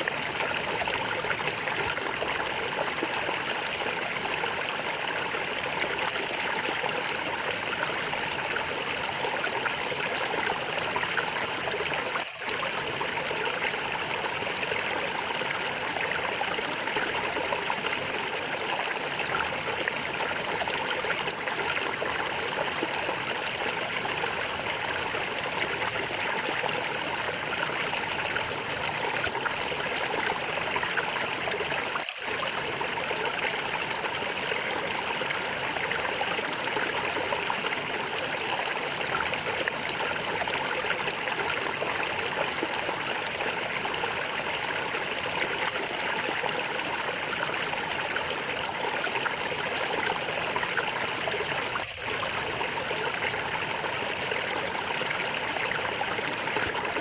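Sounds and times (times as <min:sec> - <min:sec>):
water gurgling: 0:00.0 - 0:57.0.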